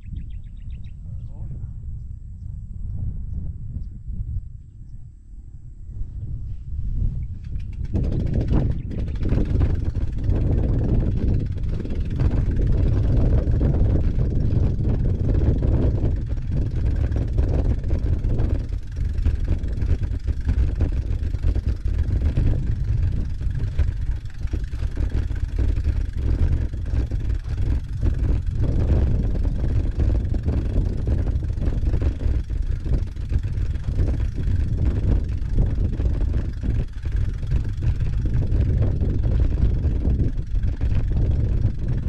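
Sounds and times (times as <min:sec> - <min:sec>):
wind buffeting microphone: 0:00.0 - 0:42.0
tyres rattling on rough track: 0:07.4 - 0:42.0.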